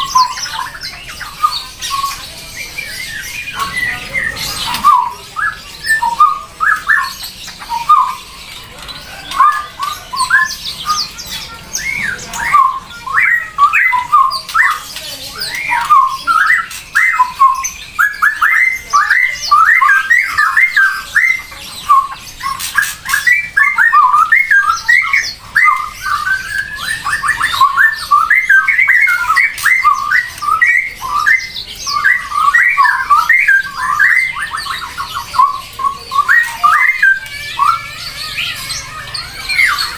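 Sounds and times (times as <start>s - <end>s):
bird calls: 0.0s - 39.9s.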